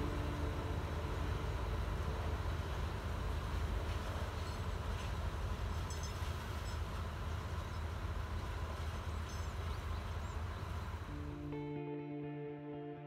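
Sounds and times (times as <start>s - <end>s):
diesel locomotive engine rumbling: 0.0s - 11.6s.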